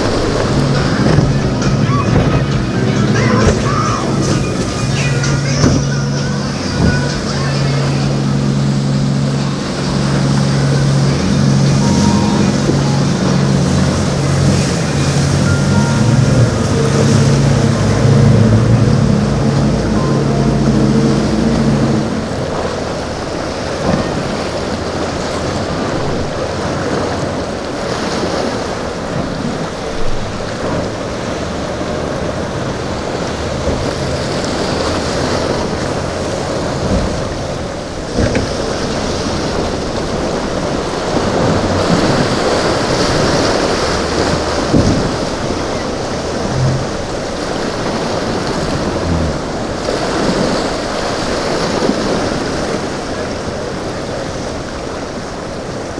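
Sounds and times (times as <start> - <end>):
boat engines running low: 0.0 - 55.9
waves breaking: 0.0 - 55.9.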